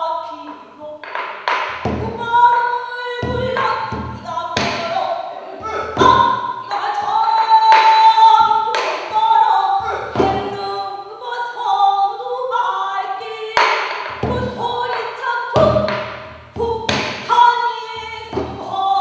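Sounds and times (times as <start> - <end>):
person singing with vibrato: 1.8 - 19.0.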